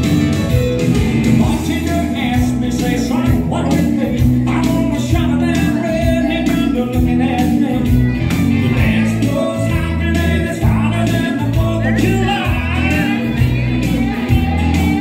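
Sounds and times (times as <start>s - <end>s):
loud dance music with singer: 0.0s - 15.0s.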